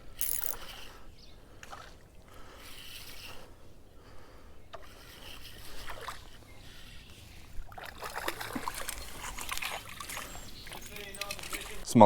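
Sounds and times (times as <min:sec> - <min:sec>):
water splashing in creek: 0:00.2 - 0:03.6, 0:04.7 - 0:11.9.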